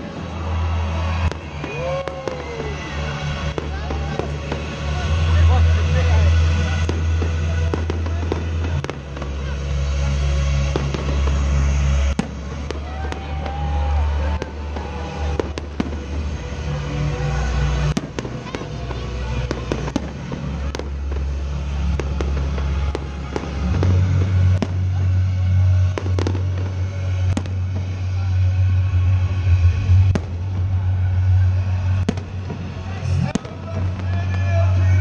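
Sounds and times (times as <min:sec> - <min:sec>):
fireworks bangs: 0:00.0 - 0:35.0
loud music with heavy bass: 0:00.0 - 0:35.0.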